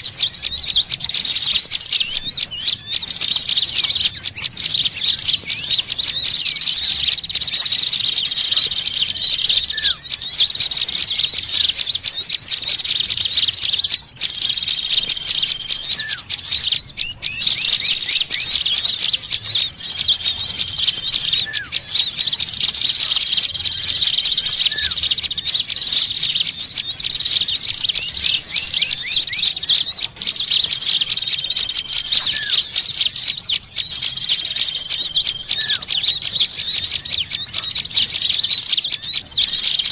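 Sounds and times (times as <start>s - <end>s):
held bird whistles: 0.0s - 39.9s
small birds chattering and chirping: 0.0s - 39.9s.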